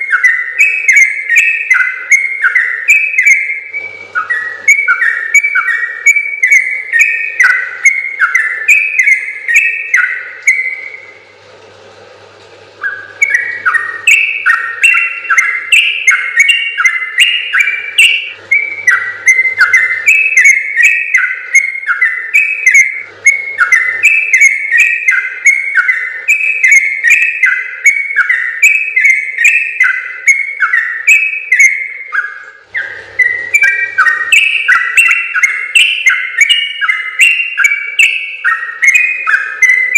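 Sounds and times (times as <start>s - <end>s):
bird singing whistled notes: 0.0s - 11.2s, 12.8s - 39.9s.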